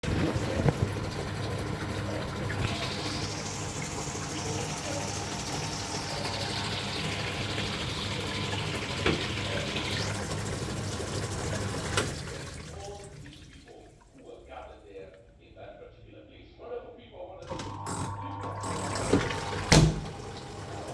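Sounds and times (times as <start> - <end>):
water rushing in washing machine: 0.0 - 14.4, 17.4 - 20.9.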